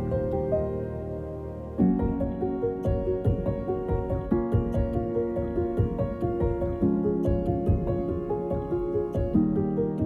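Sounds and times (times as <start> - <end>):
calm keyboard music with beat: 0.0 - 10.0.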